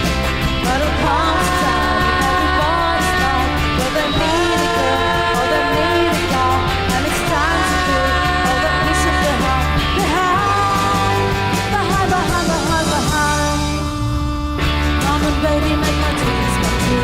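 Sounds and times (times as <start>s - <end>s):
rock song with vocals: 0.0s - 17.0s.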